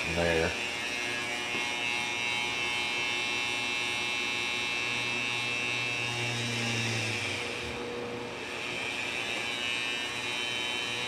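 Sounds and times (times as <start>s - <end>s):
electric drill whine: 0.0s - 11.0s.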